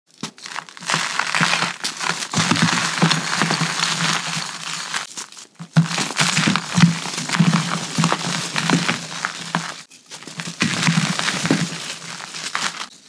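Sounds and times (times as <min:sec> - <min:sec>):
gritty chalk crunching: 0:00.1 - 0:13.0.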